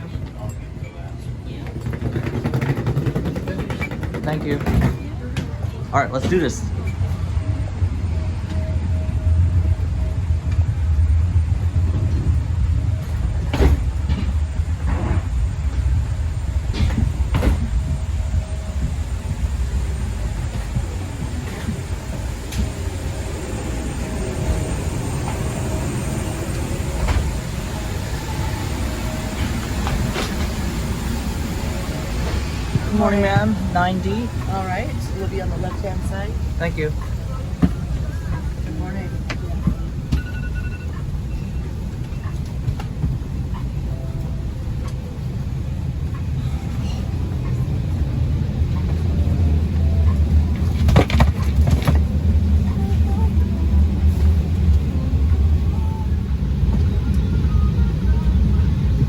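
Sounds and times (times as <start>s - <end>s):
aircraft machinery rumble and hiss: 0.0s - 59.0s.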